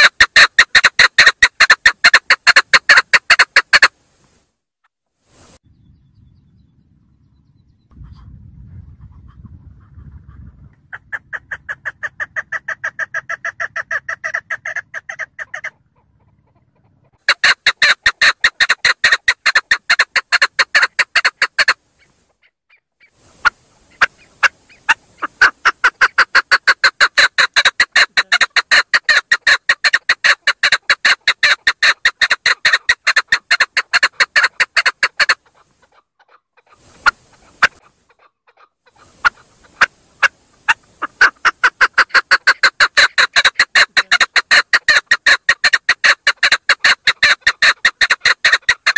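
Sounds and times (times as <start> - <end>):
partridge calling: 0.0 - 3.9, 7.6 - 48.9.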